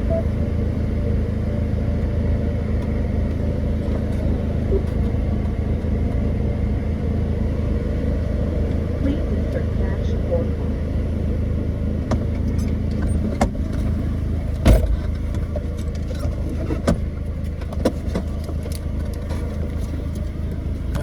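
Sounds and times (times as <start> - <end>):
car engine running with low drone: 0.0 - 21.0.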